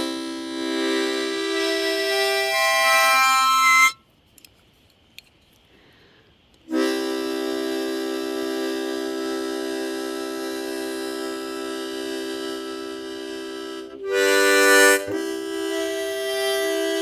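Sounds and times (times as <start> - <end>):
harmonica chords: 0.0 - 4.0, 6.7 - 17.0.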